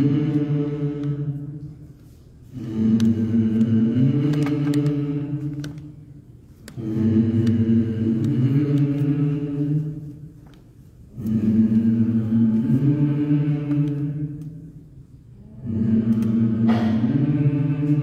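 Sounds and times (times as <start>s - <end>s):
choir chanting: 0.0s - 1.8s, 2.5s - 6.0s, 6.7s - 10.3s, 11.1s - 14.8s, 15.4s - 18.0s.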